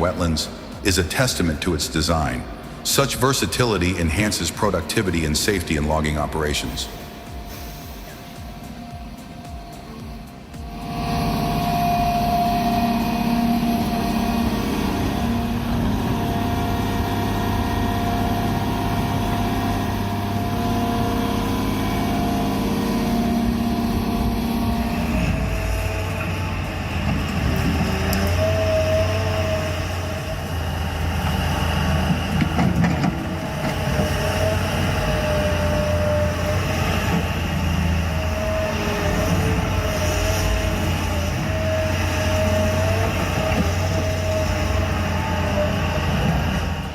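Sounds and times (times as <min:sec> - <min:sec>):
continuous whine: 0:00.0 - 0:46.9
heavy machine engine running: 0:00.0 - 0:46.9.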